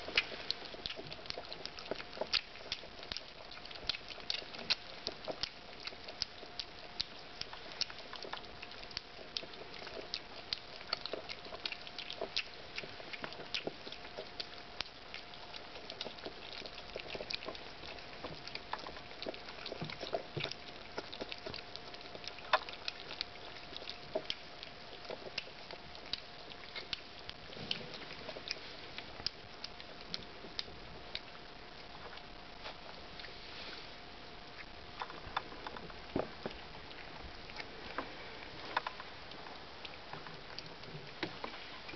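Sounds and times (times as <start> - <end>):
faint steady hum: 0.0 - 41.9
puppies lapping milk: 0.0 - 41.9.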